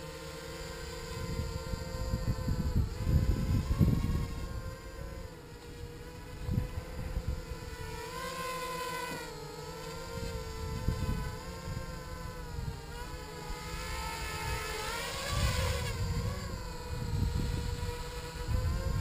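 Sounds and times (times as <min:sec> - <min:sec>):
quadcopter motors whining: 0:00.0 - 0:19.0
wind buffeting microphone: 0:01.0 - 0:08.1, 0:09.9 - 0:19.0.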